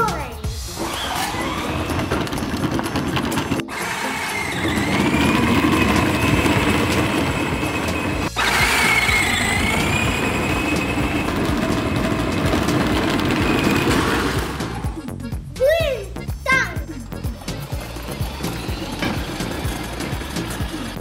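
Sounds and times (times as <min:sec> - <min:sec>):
wheels rumbling on paving: 0:00.6 - 0:15.0, 0:16.9 - 0:21.0
toy car motor whine: 0:00.7 - 0:15.0, 0:17.3 - 0:21.0.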